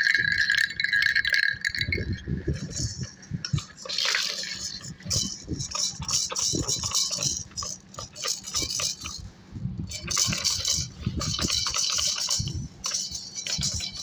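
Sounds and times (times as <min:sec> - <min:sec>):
baby rattle shaken: 0:00.0 - 0:09.3, 0:09.9 - 0:14.0.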